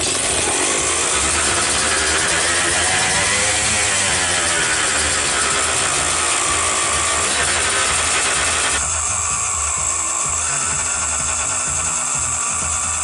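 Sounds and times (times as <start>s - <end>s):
two-stroke engine revving: 0.0s - 13.0s.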